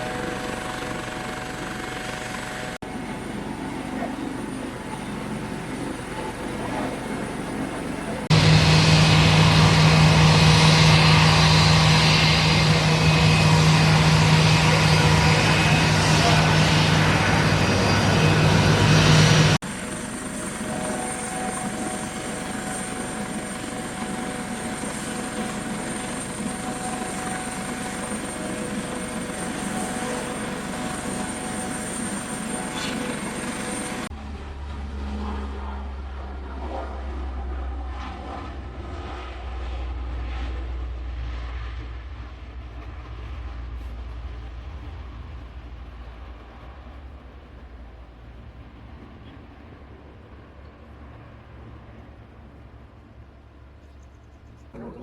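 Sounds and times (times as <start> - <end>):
thin high engine whine: 0.0 - 52.8
aircraft engine drone: 0.0 - 55.0.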